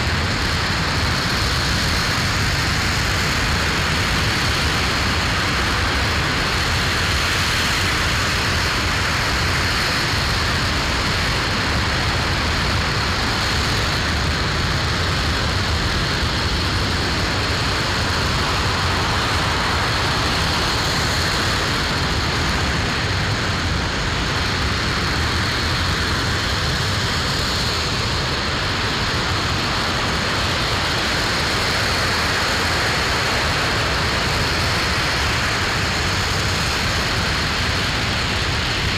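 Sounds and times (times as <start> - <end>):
rocket engine roaring: 0.0 - 38.9.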